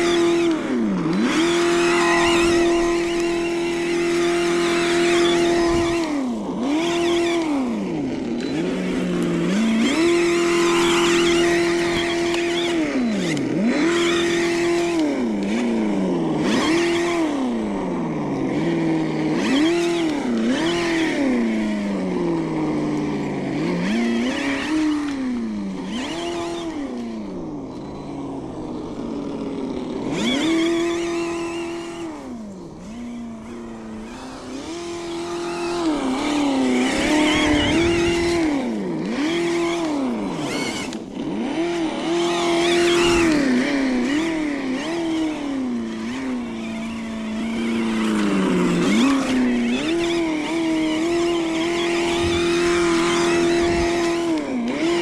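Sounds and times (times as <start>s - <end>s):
simulated engine revving: 0.0s - 55.0s.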